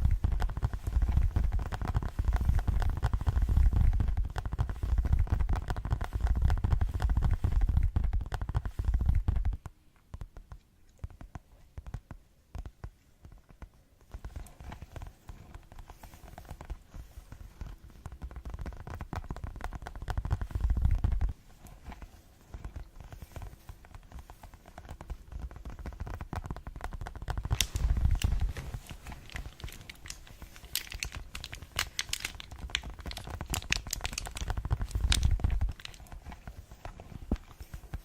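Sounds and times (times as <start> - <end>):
rapid tapping on microphone: 0.0 - 38.0.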